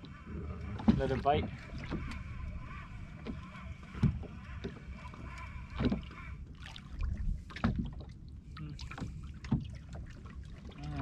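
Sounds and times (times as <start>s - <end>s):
water slapping against a hull: 0.0s - 11.0s.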